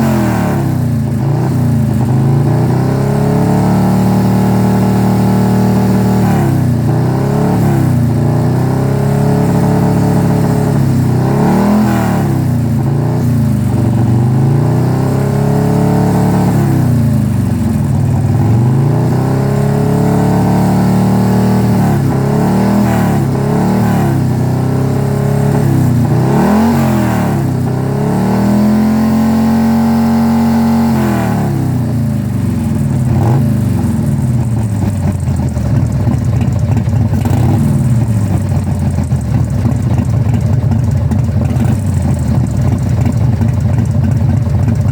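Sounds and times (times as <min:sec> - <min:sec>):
engine revving: 0:00.0 - 0:44.9.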